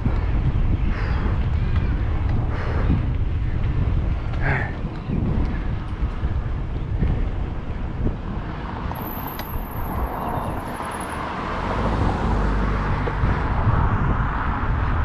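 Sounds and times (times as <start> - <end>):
road traffic noise: 0.0 - 15.0
wind on microphone: 0.0 - 15.0.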